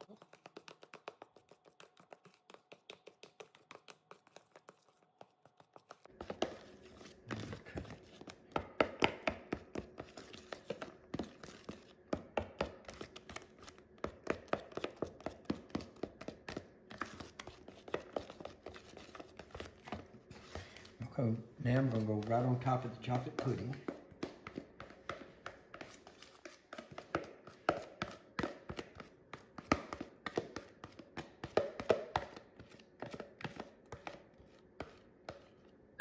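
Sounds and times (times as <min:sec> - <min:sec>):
spoon stirring in plastic bowl: 0:00.0 - 0:36.0.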